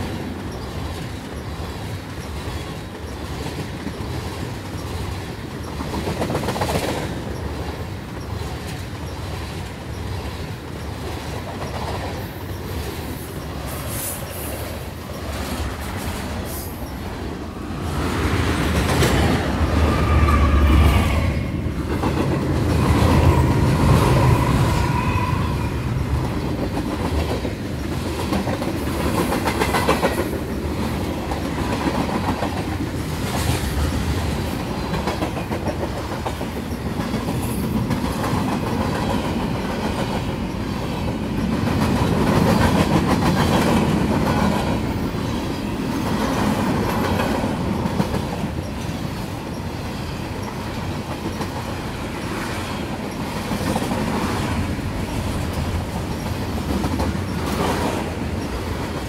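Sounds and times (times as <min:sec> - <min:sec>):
freight train rumbling past: 0:00.0 - 0:59.0
steel wheels clacking over rail joints: 0:00.0 - 0:59.0.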